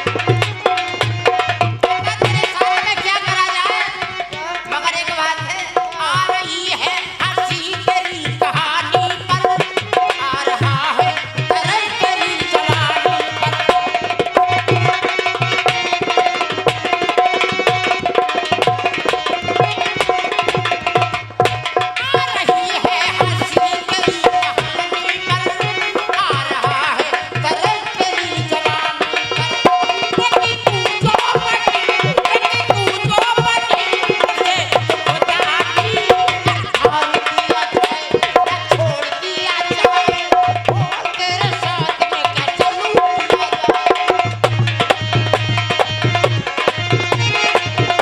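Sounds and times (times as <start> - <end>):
hand drum rhythm: 0.0 - 48.0.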